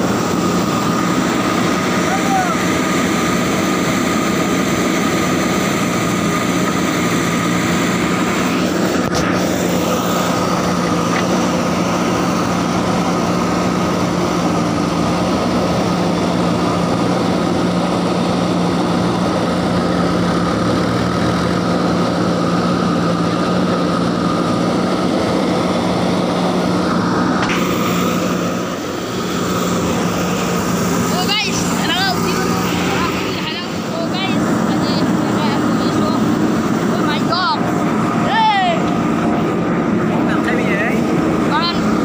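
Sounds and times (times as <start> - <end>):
backhoe diesel engine running: 0.0 - 42.0.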